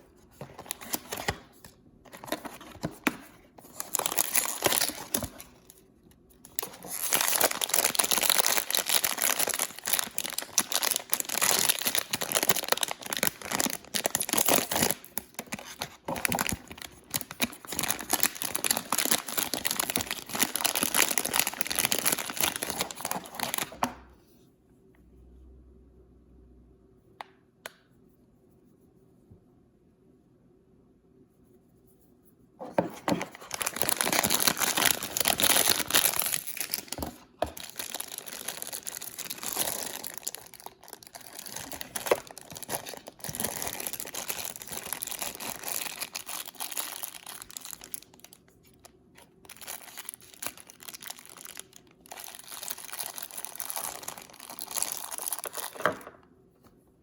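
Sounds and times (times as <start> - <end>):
toy packaging crinkling and tearing: 0.3 - 23.9, 32.6 - 56.2.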